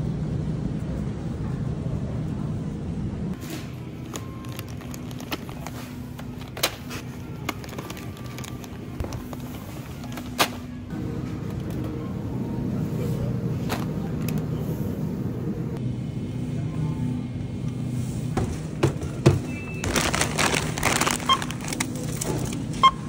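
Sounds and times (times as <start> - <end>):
store background hum: 0.0 - 23.0.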